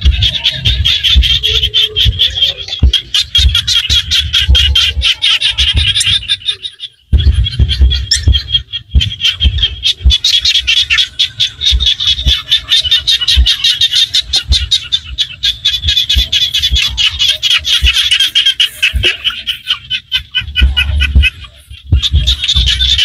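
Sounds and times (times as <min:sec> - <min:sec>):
dull low thumps: 0:00.0 - 0:18.3, 0:20.2 - 0:23.0
chorus of frogs calling: 0:00.0 - 0:23.0.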